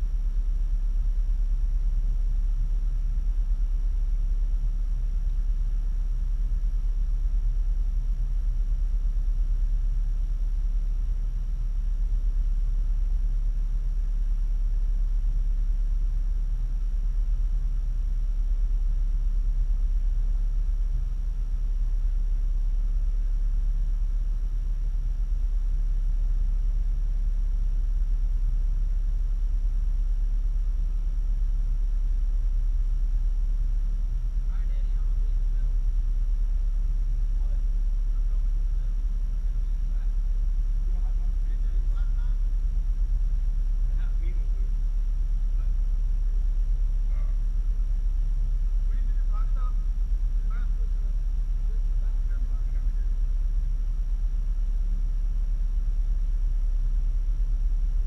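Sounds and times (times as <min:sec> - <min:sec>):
faint high whine: 0:00.0 - 0:58.0
vehicle engine idling: 0:00.0 - 0:58.0.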